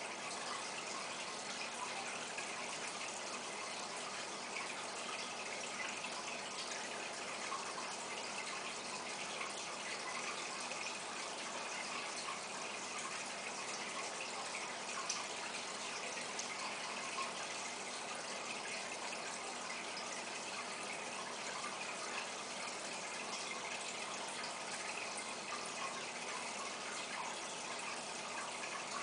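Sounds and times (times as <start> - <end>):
aquarium water bubbling: 0.0 - 29.0.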